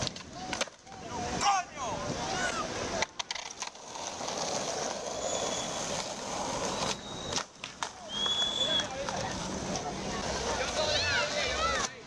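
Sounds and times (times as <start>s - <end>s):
skateboard tail cracking: 0.0s - 1.4s, 2.1s - 12.0s
skateboard wheels rolling on asphalt: 0.0s - 12.0s.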